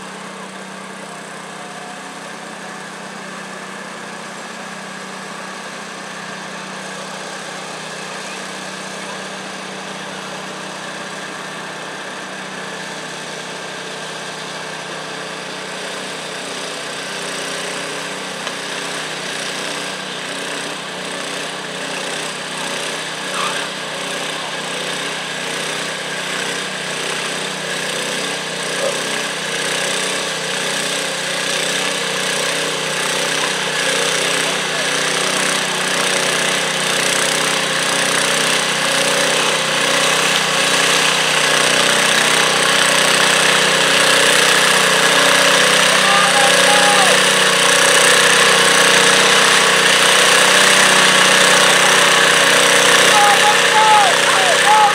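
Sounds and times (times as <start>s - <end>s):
larger machine engine: 0.0s - 54.9s
tractor engine running: 0.0s - 54.9s.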